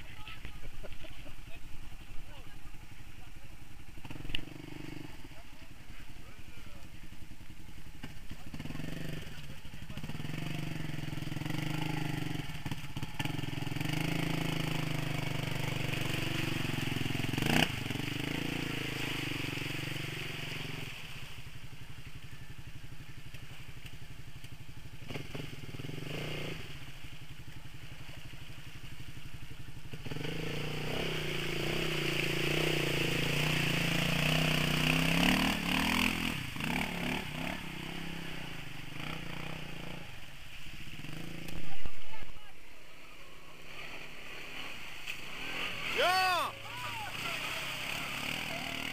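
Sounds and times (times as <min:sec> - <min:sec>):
quad bike engine revving: 0:04.0 - 0:42.0, 0:42.9 - 0:48.9.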